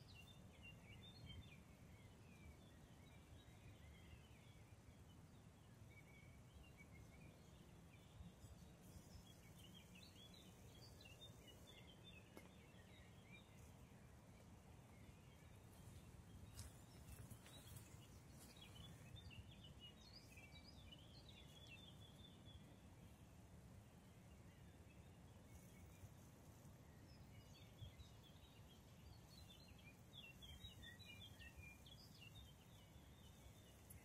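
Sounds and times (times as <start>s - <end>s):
small birds chirping faintly: 0.0s - 34.0s.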